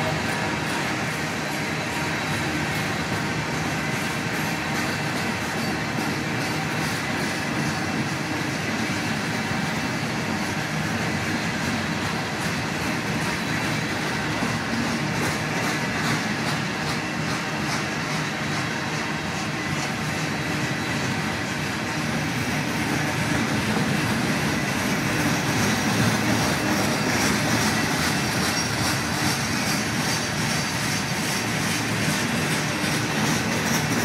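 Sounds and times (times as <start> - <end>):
freight train wheels rumbling on rail: 0.0 - 34.0.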